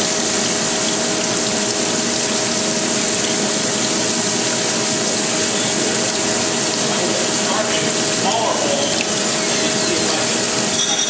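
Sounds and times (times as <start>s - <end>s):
coolant hissing over grinding wheel: 0.0s - 11.0s
faint machine hum: 0.0s - 11.0s.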